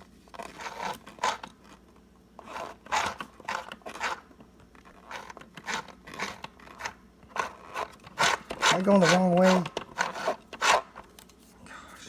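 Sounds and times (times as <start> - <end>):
toy sewing machine scraping: 0.4 - 1.8, 2.4 - 11.0.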